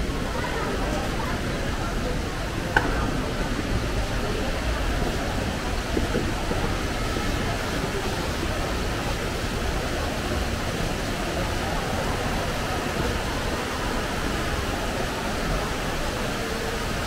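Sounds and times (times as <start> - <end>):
water fountain jets splashing: 0.0 - 17.0.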